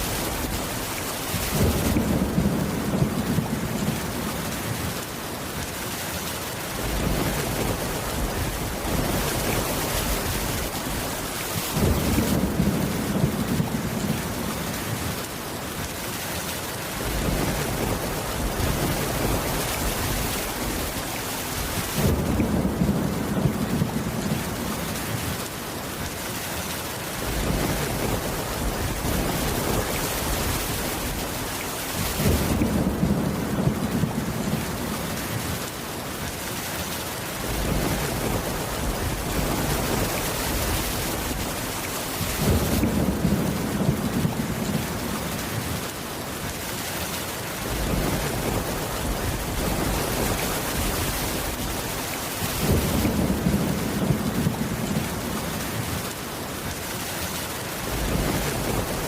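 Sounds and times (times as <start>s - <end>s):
thunder rumbling: 0.0s - 5.1s, 6.8s - 15.2s, 17.0s - 25.5s, 27.2s - 35.7s, 37.4s - 46.0s, 47.6s - 56.1s, 57.8s - 59.0s
rain on a wooden roof: 0.0s - 59.0s.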